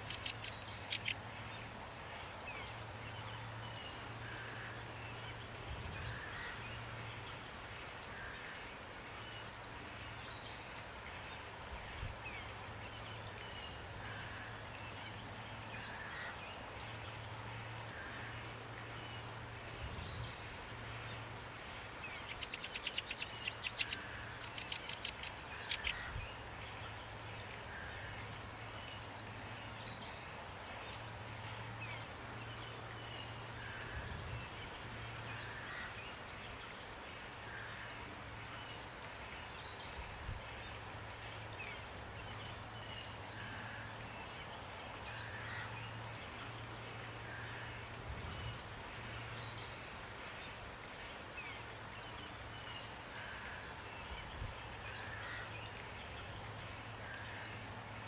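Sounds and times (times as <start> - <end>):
songbirds chirping: 0.0 - 58.0
rain falling: 8.8 - 58.0.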